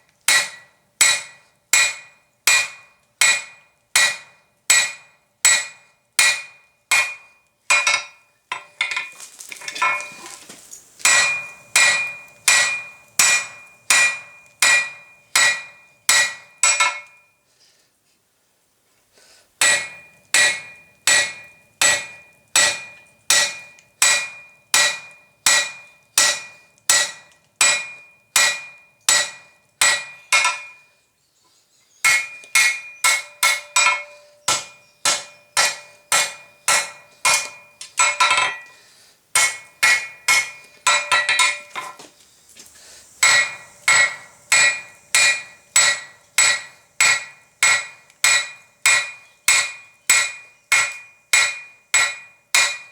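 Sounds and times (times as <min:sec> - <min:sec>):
hammer striking steel on anvil: 0:00.3 - 0:09.1, 0:11.0 - 0:17.3, 0:19.6 - 0:30.9, 0:32.0 - 0:38.8, 0:39.4 - 0:42.0, 0:43.2 - 0:52.9.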